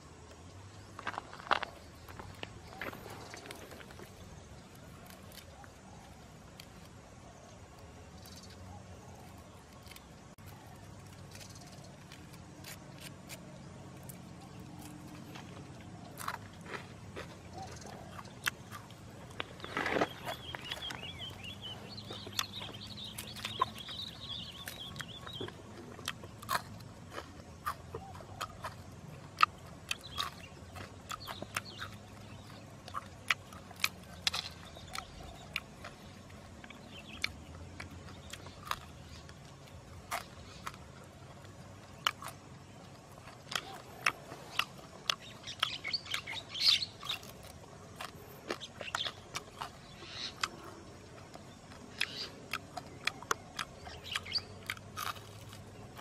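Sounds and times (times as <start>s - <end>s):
bird chirping: 0.0s - 56.0s
chewing and tearing meat: 0.8s - 56.0s.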